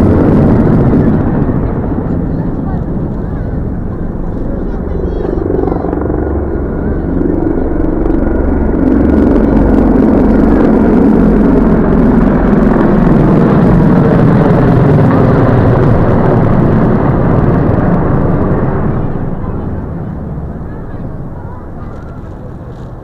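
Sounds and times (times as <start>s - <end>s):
helicopters flying low overhead: 0.0s - 23.0s.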